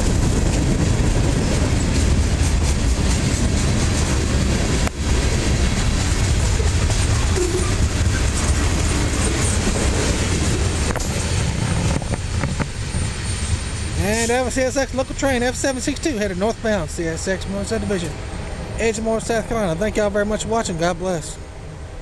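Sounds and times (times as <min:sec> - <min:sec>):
train wheels running on rails: 0:00.0 - 0:22.0.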